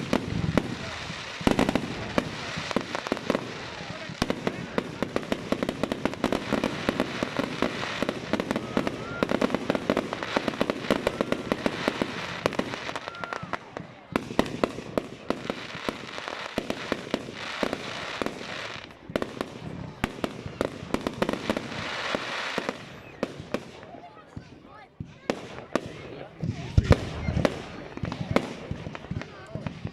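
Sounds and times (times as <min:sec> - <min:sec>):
fireworks cracks and bangs: 0:00.0 - 0:29.9.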